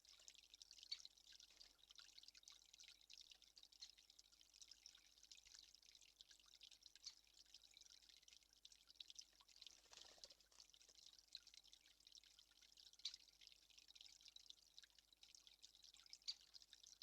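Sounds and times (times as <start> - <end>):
faint irregular dripping: 0.0 - 17.0.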